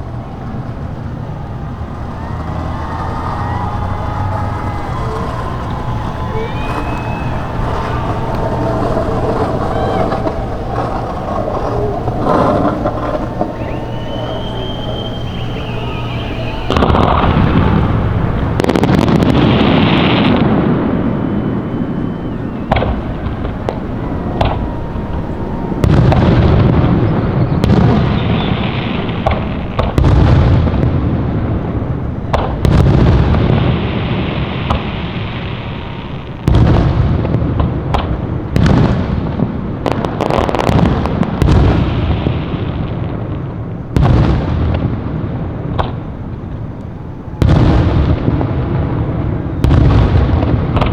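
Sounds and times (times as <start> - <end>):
fireworks booms: 0.0 - 50.9
rumbling echo: 0.0 - 50.9.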